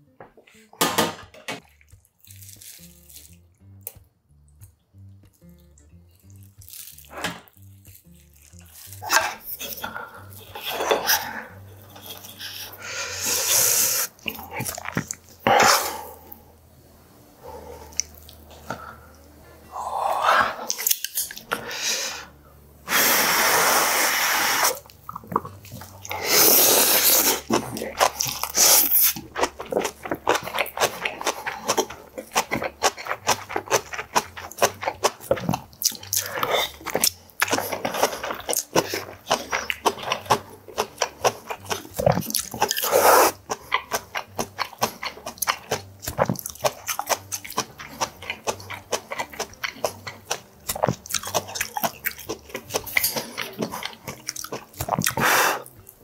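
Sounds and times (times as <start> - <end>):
person chewing food: 1.6 - 16.6, 17.4 - 22.3, 24.6 - 56.0.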